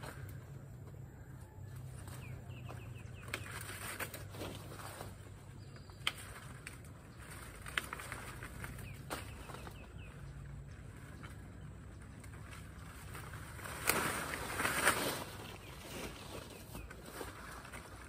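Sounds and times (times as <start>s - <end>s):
small birds chirping: 0.0s - 13.8s, 15.2s - 18.0s
leaves and branches rustling: 0.0s - 18.0s.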